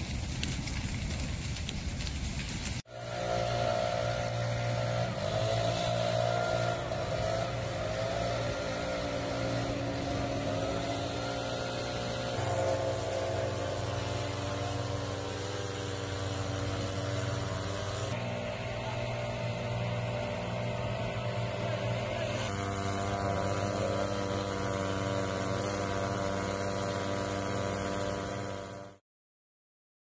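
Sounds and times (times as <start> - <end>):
blower engines droning: 2.7 - 29.0.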